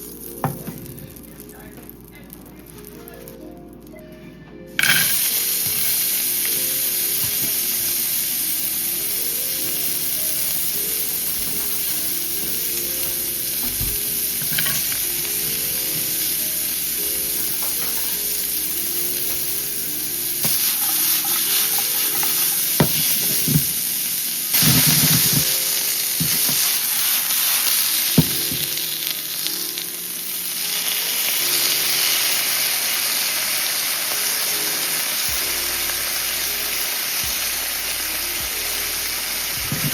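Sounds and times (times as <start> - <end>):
food sizzling in a frying pan: 0.0 - 3.2, 4.8 - 39.9.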